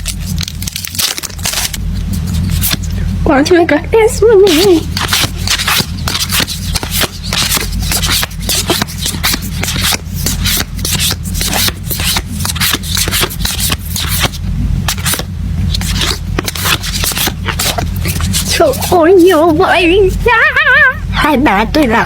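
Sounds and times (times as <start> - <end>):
cards shuffled and rustling: 0.0 - 2.9, 4.5 - 19.5
steady low hum: 0.0 - 22.0.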